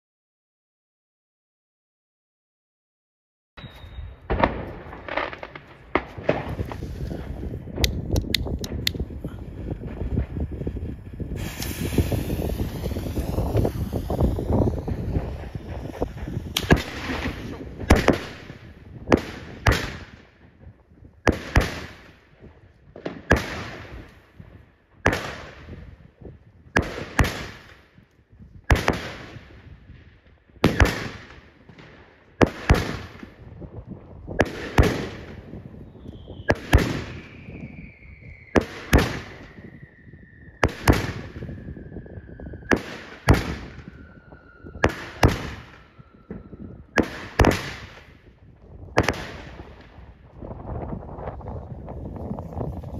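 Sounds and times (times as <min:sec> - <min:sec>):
fireworks bangs: 0:03.6 - 0:52.9.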